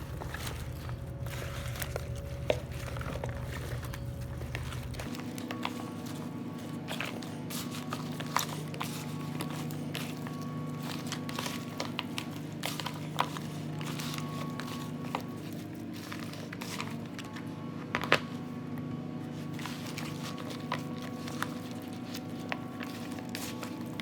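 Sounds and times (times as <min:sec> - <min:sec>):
hands mixing food in a bowl: 0:00.0 - 0:17.4, 0:18.9 - 0:24.0.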